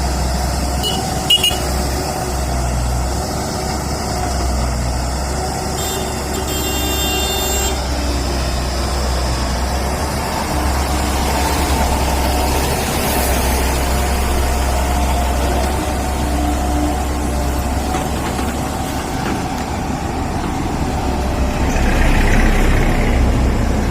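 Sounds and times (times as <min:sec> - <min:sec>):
heavy diesel engine running: 0:00.0 - 0:23.9.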